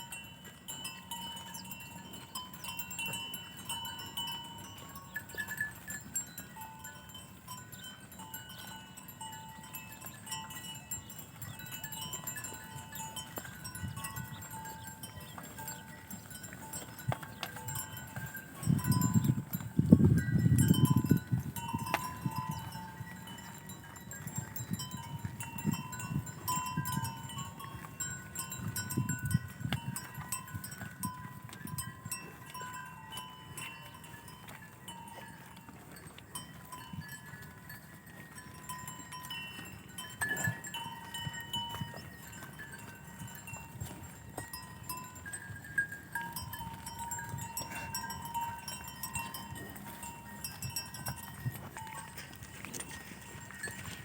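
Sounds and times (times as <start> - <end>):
bells ringing: 0.0 - 54.0.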